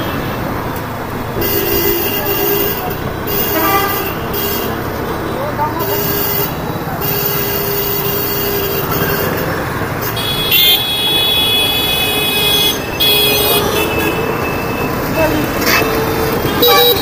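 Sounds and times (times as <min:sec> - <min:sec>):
vehicle horns honking: 0:00.0 - 0:17.0.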